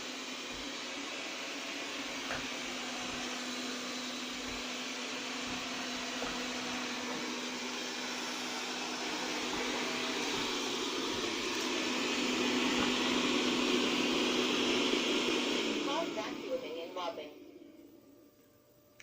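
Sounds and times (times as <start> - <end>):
robot vacuum whirring hum: 0.0 - 18.2.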